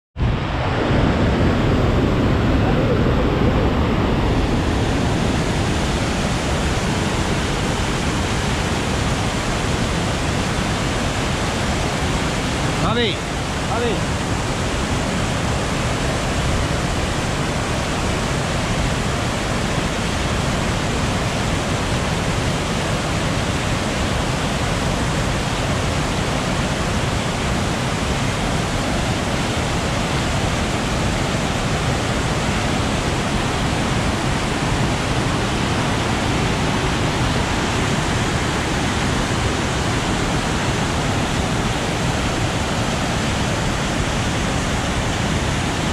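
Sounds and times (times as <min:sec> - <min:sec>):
waterfall rushing: 0:00.2 - 0:45.9
stream tumbling over rocks: 0:00.6 - 0:45.9.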